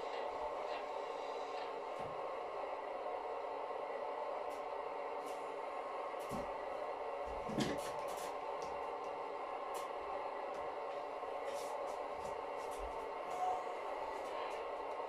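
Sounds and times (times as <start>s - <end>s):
model train motor hum: 0.0s - 15.0s.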